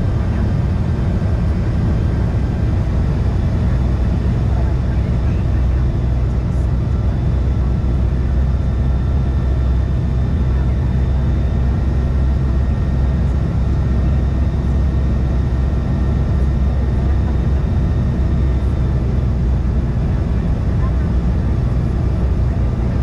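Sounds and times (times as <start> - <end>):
jet cabin rumble: 0.0 - 23.0.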